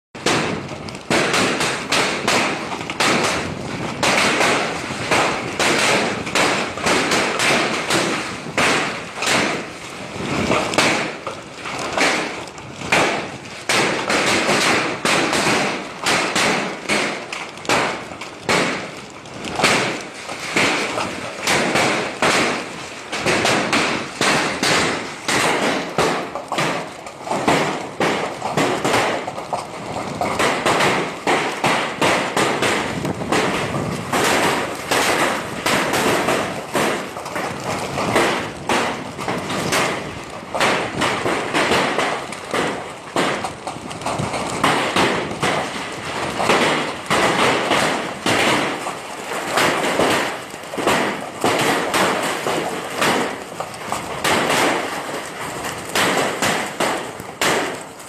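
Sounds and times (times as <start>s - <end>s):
hailstones clattering: 0.1s - 58.0s.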